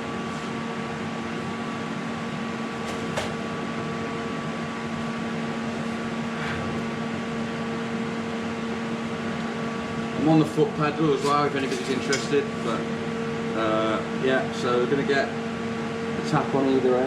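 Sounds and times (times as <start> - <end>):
welder hum and cooling fan: 0.0 - 17.0.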